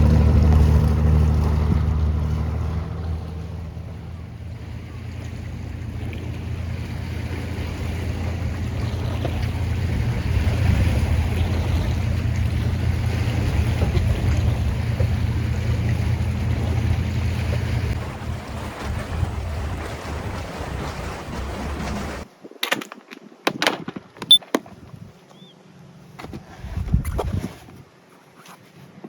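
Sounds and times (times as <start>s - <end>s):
water noise: 0.0s - 25.0s
boat engine humming: 0.0s - 26.2s
wind: 0.0s - 29.0s.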